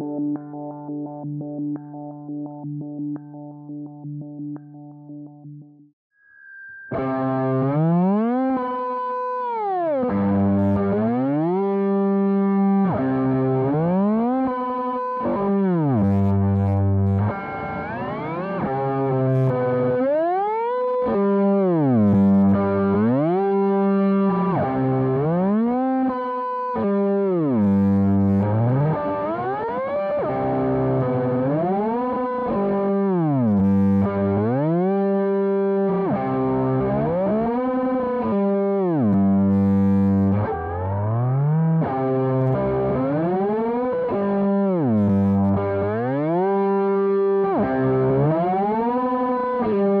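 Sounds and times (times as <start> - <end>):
distorted pitch-shifting electric guitar: 0.0 - 5.6, 6.2 - 50.0.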